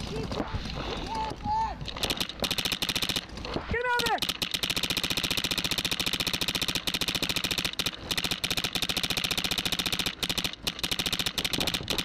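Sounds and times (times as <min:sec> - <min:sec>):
paintball marker rapid firing: 0:01.9 - 0:12.0.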